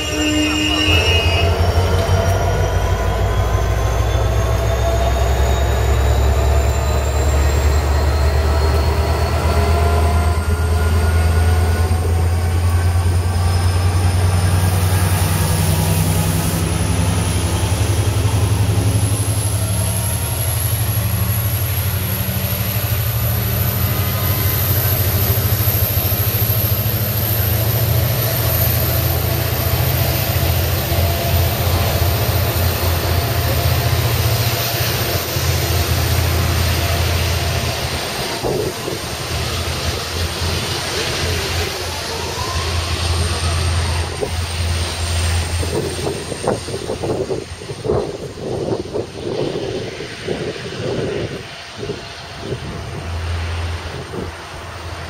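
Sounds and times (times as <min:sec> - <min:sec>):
train deep drone: 0:00.0 - 0:55.0
train whine rising in pitch: 0:00.0 - 0:55.0.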